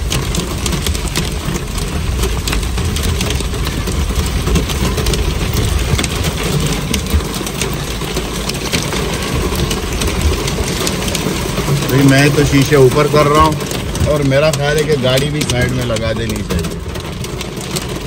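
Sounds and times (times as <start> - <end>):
steady low rumble: 0.0 - 17.4
hail and rain on car roof: 0.0 - 18.0.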